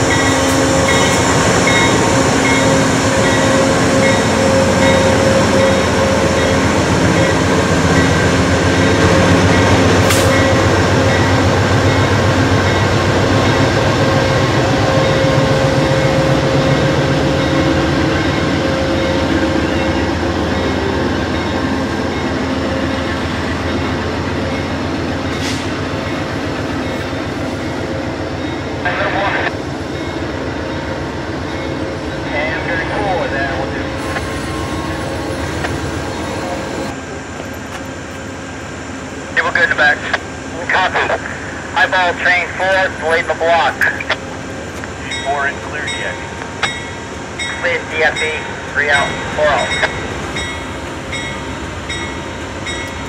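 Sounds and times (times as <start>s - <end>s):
diesel locomotive engine drone: 0.0s - 53.0s
train cars rolling on rails: 0.0s - 53.0s.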